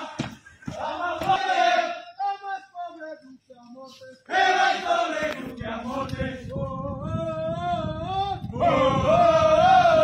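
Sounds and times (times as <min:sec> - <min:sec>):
men chanting in unison: 0:00.0 - 0:02.7, 0:04.2 - 0:10.0.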